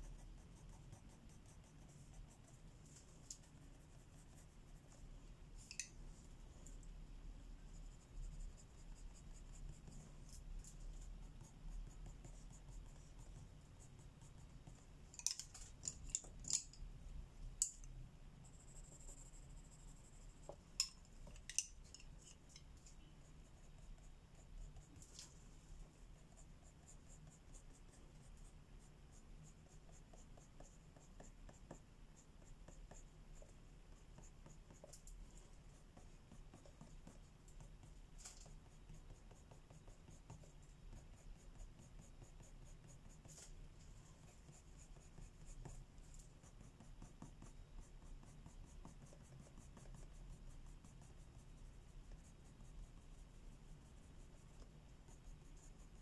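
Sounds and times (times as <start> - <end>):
pencil scratching on paper: 0.0 - 6.8, 7.4 - 16.8, 18.4 - 56.0.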